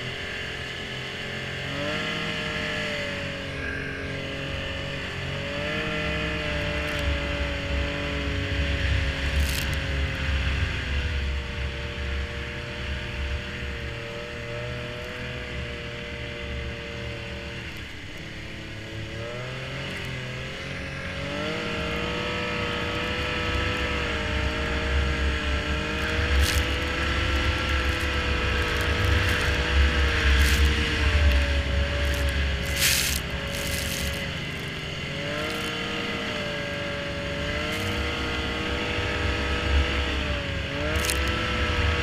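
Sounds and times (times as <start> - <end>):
snowmobile engine running: 0.0 - 42.0.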